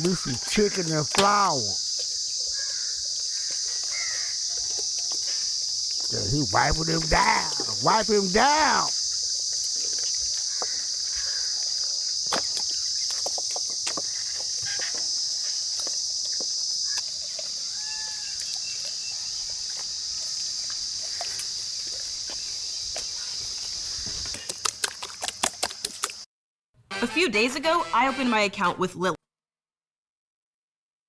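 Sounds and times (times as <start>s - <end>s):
high-pitched insect chorus: 0.0s - 26.2s.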